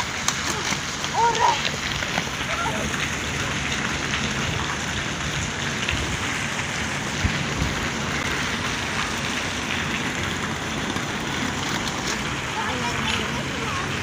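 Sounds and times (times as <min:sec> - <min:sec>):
wind buffeting microphone: 0:02.2 - 0:14.0.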